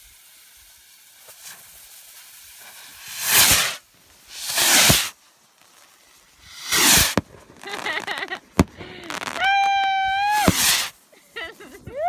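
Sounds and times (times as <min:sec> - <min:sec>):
firework rockets whooshing: 0:00.0 - 0:12.0
fuse sizzling: 0:00.0 - 0:12.0.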